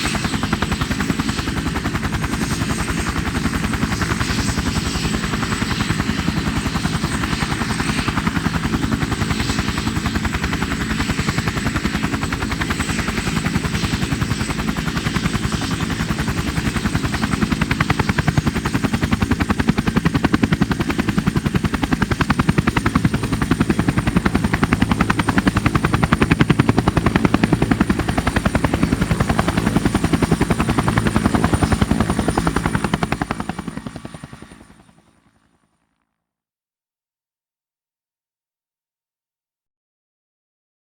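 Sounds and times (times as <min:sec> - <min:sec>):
helicopter rotor chop: 0:00.0 - 0:35.0
helicopter turbine whine: 0:00.0 - 0:35.8.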